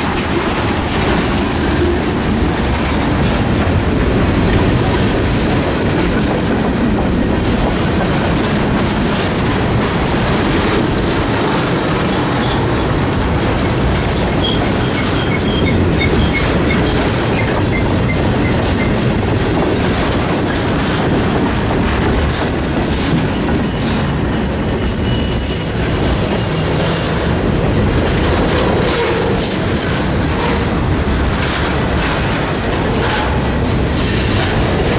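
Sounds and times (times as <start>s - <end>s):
freight train wheels rumbling: 0.0s - 34.9s.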